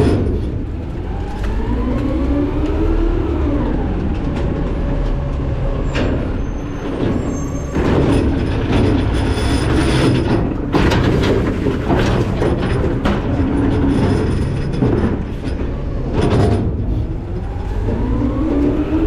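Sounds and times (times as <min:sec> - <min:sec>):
garbage truck hopper working: 0:00.0 - 0:19.0
metal grinding and squealing: 0:00.0 - 0:19.0.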